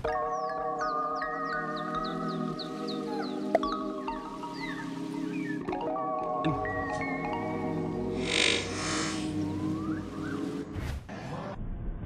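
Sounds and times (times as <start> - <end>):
held chords: 0.0 - 10.7.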